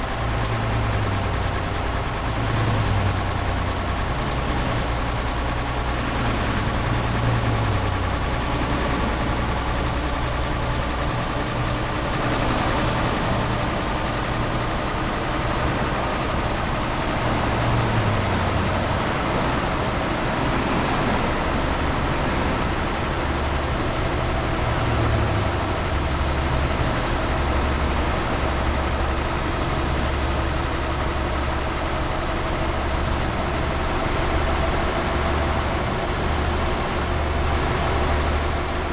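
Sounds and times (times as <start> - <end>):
road noise: 0.0 - 38.9
truck engine running: 0.0 - 38.9.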